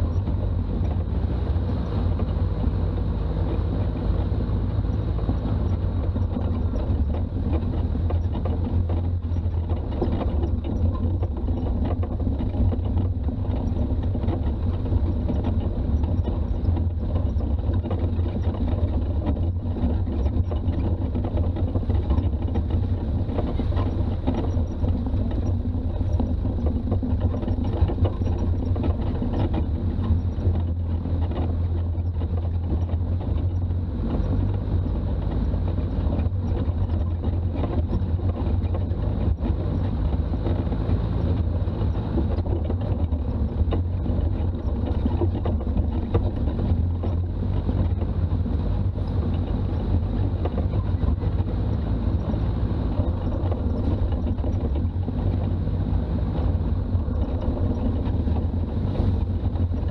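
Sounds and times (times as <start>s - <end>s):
diesel engine rumble while driving: 0.0s - 59.9s.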